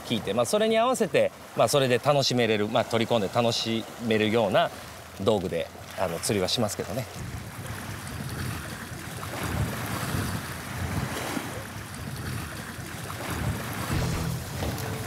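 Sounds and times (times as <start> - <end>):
waves washing against rocks: 0.0 - 15.0.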